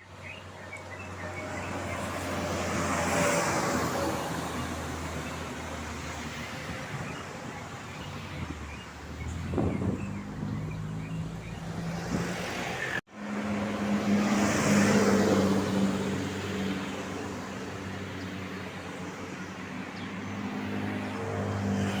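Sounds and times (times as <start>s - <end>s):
vehicle passing with road noise: 0.0s - 22.0s.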